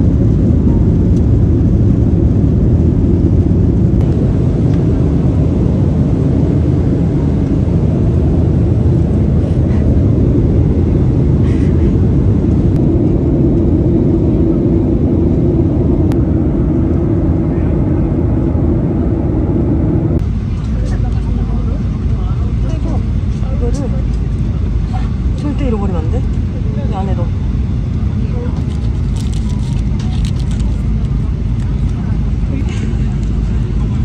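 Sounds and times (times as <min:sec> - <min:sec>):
jet engines roaring in cabin: 0:00.0 - 0:34.0.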